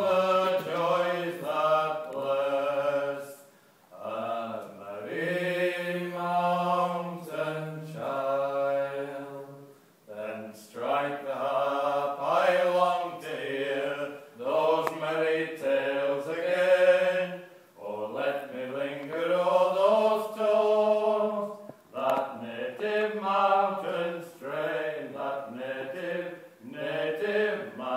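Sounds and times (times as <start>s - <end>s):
two men singing unaccompanied: 0.0s - 27.9s.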